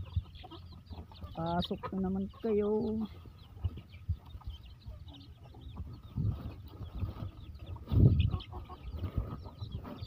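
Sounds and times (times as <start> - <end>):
chicks peeping: 0.0 - 10.0
rustles and bumps in coop: 0.0 - 10.0.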